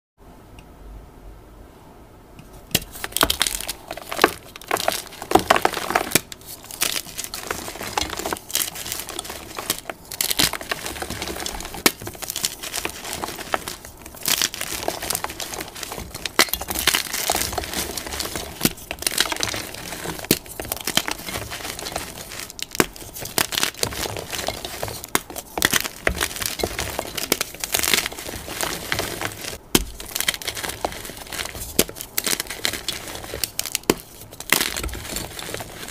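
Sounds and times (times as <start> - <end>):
chalk crunching in hands: 2.9 - 35.9.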